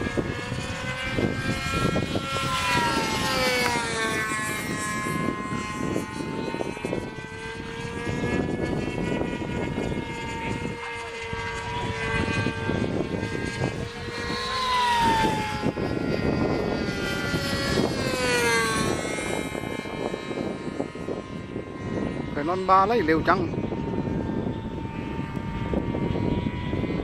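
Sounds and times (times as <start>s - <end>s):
model airplane motor whining: 0.0s - 27.0s.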